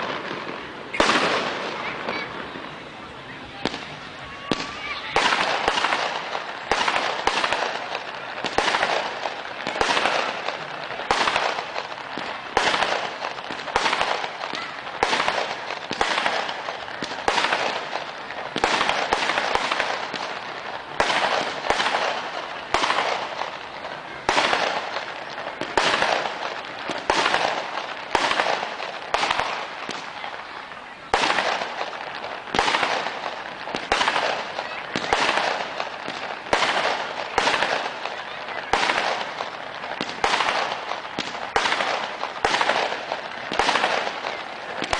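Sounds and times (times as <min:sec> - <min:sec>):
fireworks bangs and crackle: 0:00.0 - 0:44.9.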